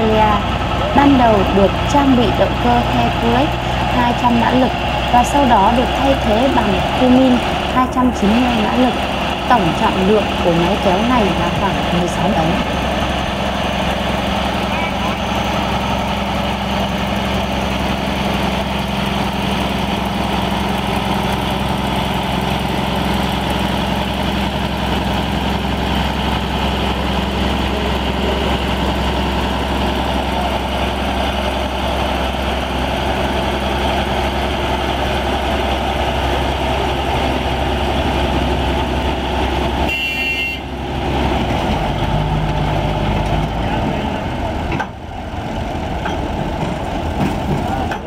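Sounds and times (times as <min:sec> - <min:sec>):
tractor diesel engine under load: 0:00.0 - 0:48.0.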